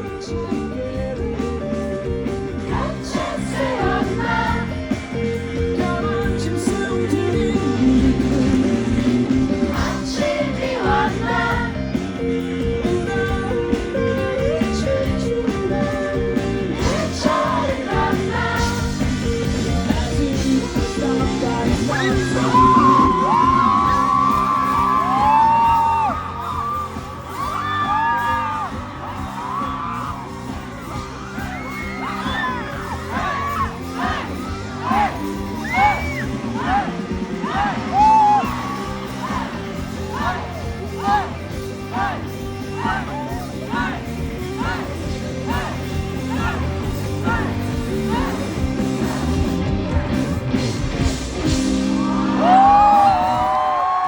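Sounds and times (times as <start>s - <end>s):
lead vocal singing: 0.0s - 30.0s, 30.9s - 50.8s
live rock band playing: 0.0s - 54.0s.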